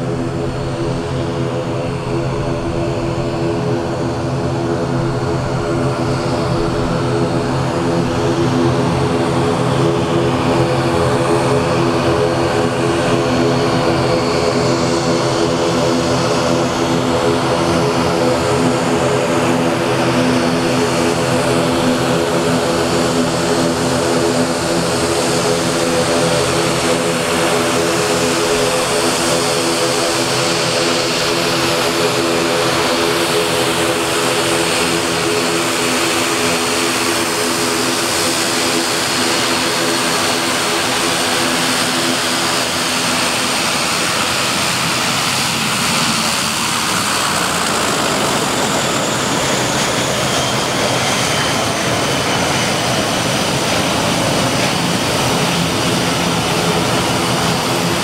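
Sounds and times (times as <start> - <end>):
turboprop plane taxiing: 0.0 - 58.0.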